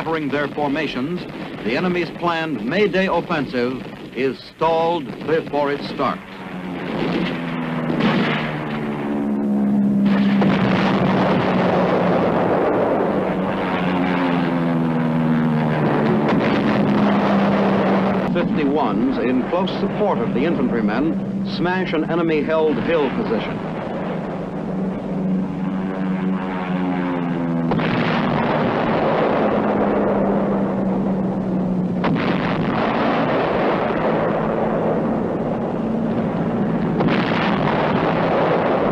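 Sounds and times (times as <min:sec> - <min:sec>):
explosions: 0:00.0 - 0:38.9
propeller planes droning: 0:00.0 - 0:38.9
rushing noise: 0:03.6 - 0:38.9.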